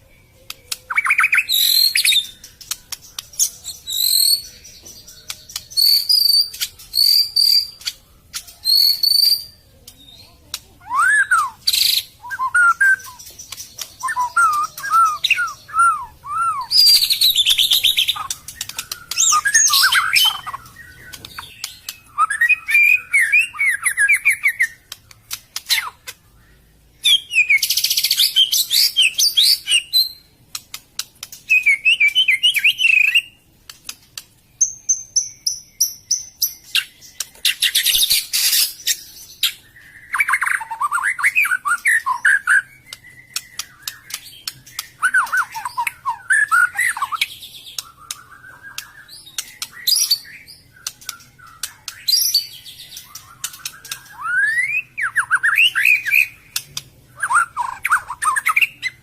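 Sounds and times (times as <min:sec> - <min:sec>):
bird singing whistles and chatter: 0:00.0 - 0:33.4, 0:34.6 - 0:59.0.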